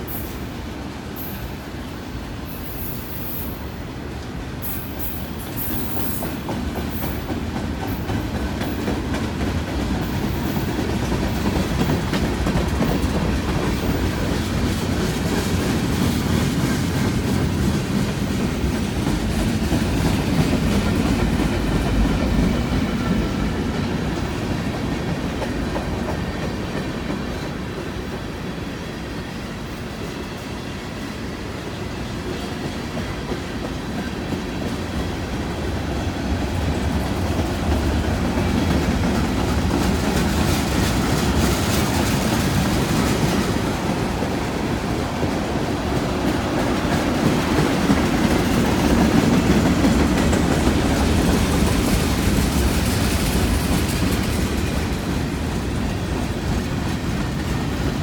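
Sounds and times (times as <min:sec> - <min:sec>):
freight train wheels clacking: 0:00.0 - 0:58.0.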